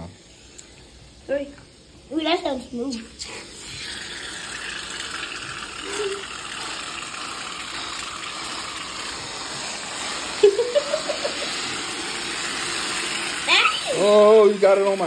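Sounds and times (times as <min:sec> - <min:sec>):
aerosol cans spraying hiss: 0:02.8 - 0:15.0.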